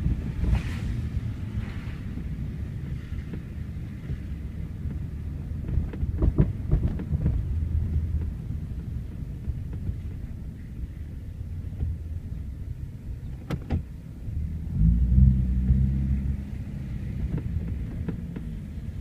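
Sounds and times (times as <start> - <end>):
car engine rumble from inside: 0.0 - 19.0.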